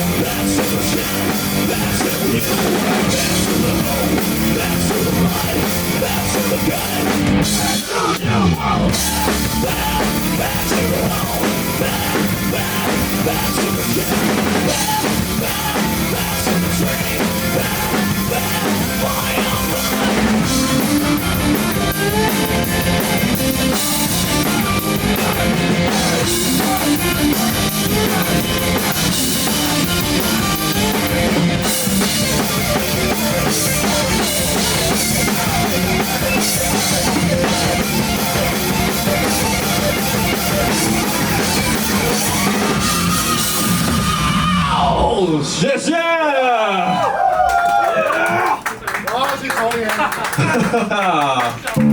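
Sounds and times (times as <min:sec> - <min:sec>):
drum kit: 0:00.0 - 0:45.3, 0:49.7 - 0:51.9
rock band playing: 0:00.0 - 0:45.9, 0:49.6 - 0:51.9.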